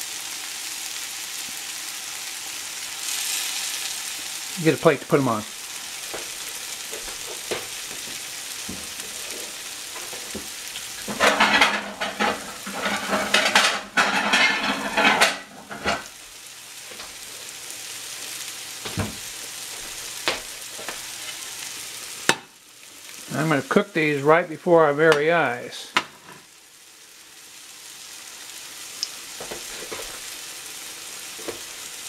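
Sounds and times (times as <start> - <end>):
pancakes sizzling in oil: 0.0 - 32.0.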